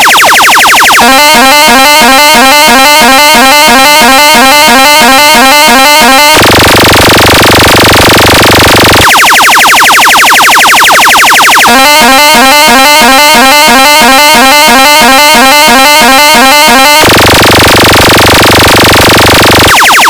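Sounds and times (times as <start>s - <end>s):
electronic music synth horn: 0.0s - 20.0s.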